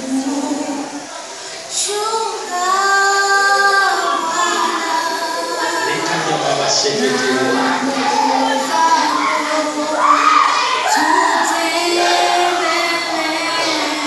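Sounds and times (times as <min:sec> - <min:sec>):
girl and women singing: 0:00.0 - 0:14.0.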